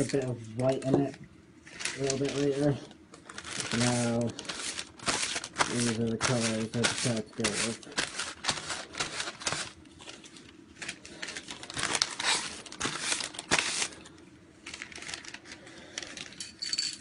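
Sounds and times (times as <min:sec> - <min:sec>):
paper crumpling and rustling: 0:01.0 - 0:16.4.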